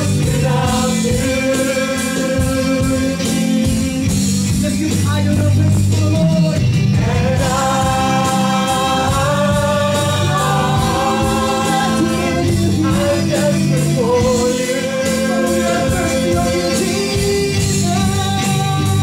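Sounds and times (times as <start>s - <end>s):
electric guitar: 0.0s - 19.0s
keyboard: 0.0s - 19.0s.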